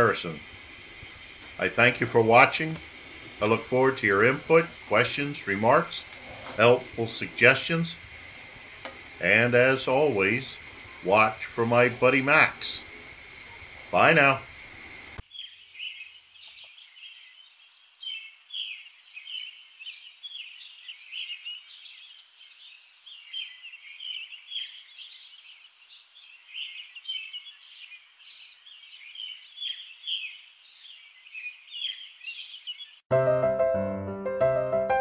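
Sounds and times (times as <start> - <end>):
small birds chirping: 0.0 - 33.1.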